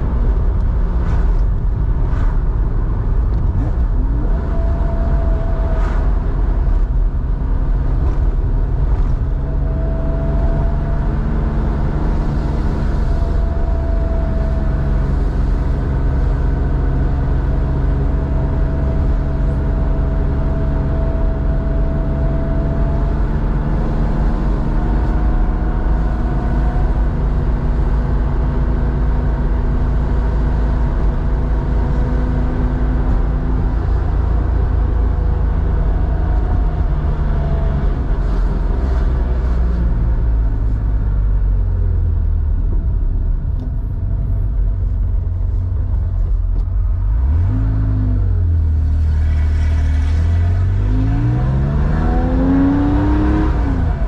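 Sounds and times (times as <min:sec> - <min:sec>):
car exhaust rumble: 0:00.0 - 0:54.0.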